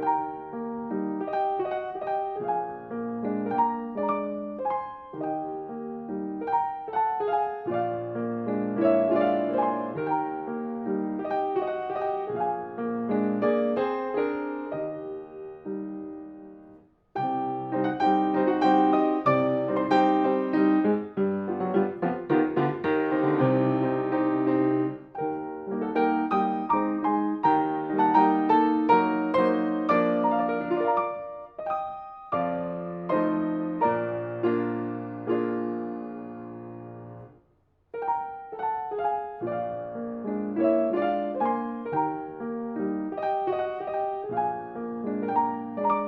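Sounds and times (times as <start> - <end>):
grand piano playing: 0.0 - 37.4, 38.0 - 46.0.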